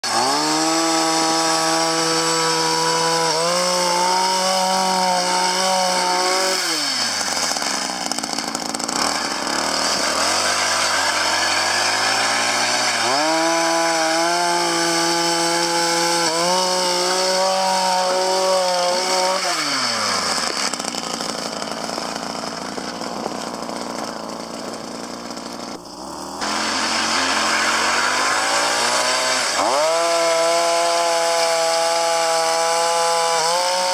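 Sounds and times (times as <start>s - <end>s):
ice auger engine drilling: 0.0s - 33.9s.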